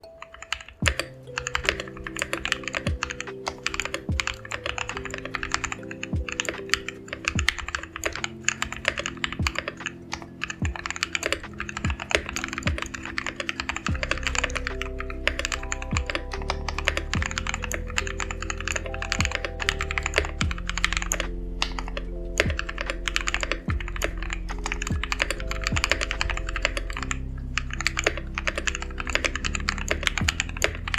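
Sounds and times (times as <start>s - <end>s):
fast typing on mechanical keyboard: 0.2s - 30.9s
background music with bass line: 0.8s - 30.9s.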